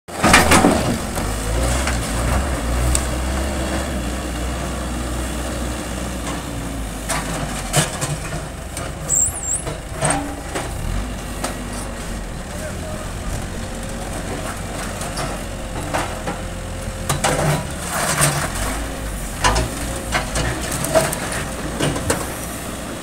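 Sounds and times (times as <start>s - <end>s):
diesel engine running: 0.1s - 23.0s.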